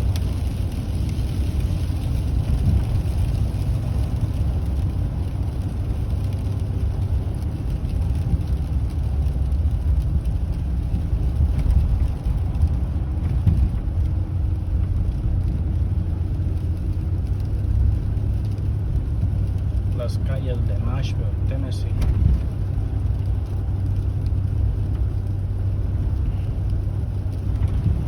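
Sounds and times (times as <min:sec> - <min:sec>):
car engine and tyre noise: 0:00.0 - 0:28.0.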